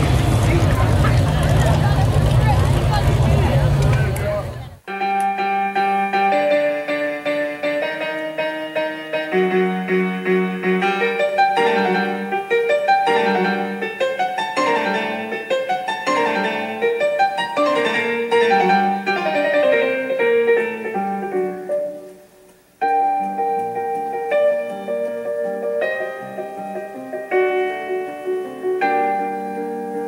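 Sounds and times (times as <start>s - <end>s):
piano background music: 4.8s - 30.0s.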